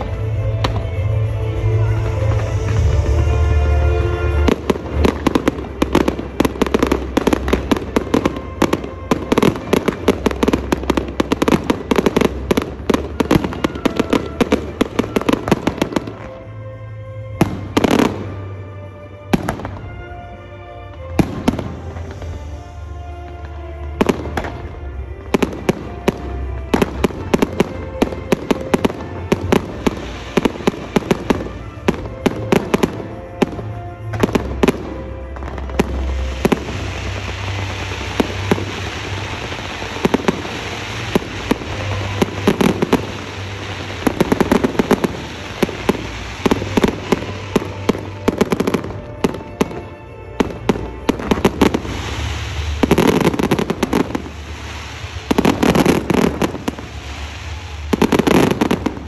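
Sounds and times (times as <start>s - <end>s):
fireworks bangs: 0.0s - 16.4s, 20.9s - 59.0s
fireworks crackling hiss: 0.0s - 59.0s.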